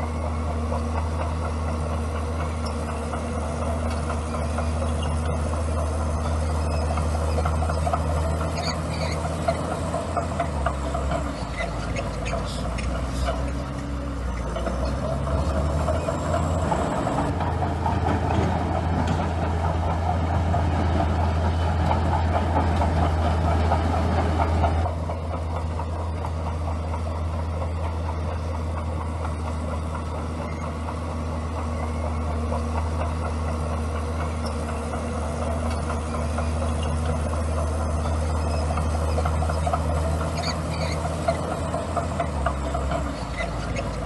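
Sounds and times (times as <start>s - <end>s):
bulldozer diesel engine humming: 0.0s - 44.0s.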